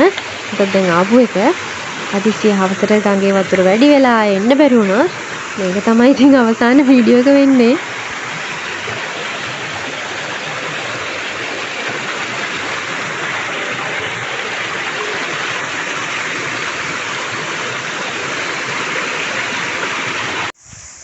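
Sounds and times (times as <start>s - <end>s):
river water rushing over rocks: 0.0s - 20.5s.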